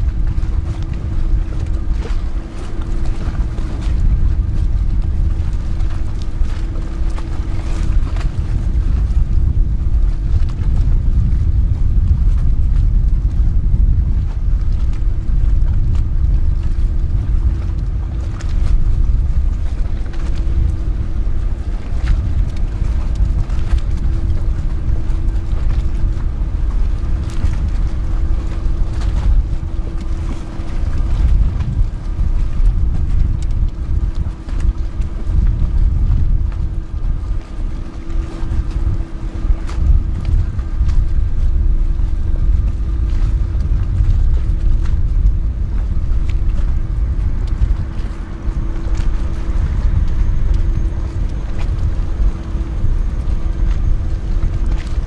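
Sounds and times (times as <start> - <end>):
hum of boat gas turbines: 0.0 - 55.0
wind rumbling on microphone: 0.0 - 55.0.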